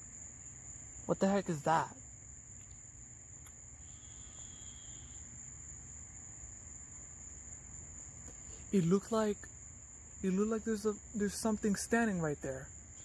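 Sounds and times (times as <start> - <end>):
crickets trilling: 0.0 - 13.0
lower cricket trill: 0.0 - 13.0.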